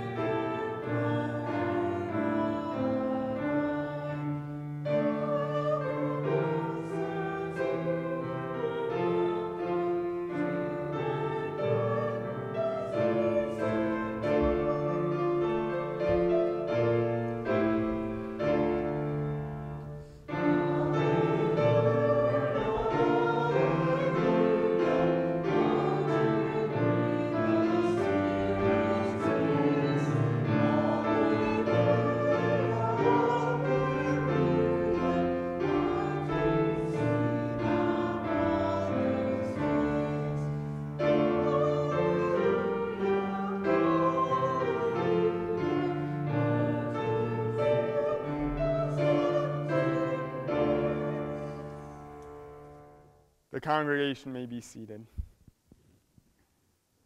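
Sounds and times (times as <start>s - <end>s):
group singing a hymn: 0.0s - 52.6s
keyboard accompaniment: 0.0s - 54.9s.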